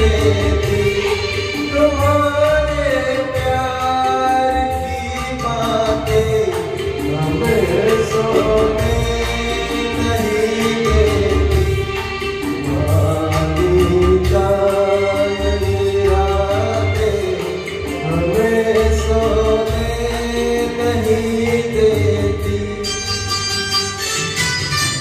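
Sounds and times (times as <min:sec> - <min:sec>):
man singing into microphone: 0:00.0 - 0:24.9
recorded backing music: 0:00.0 - 0:25.0.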